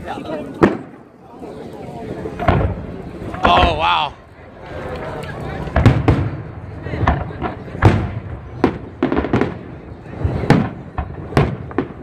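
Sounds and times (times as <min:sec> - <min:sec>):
fireworks bursting: 0:00.5 - 0:01.1, 0:02.2 - 0:12.0
rumbling echo: 0:02.0 - 0:12.0.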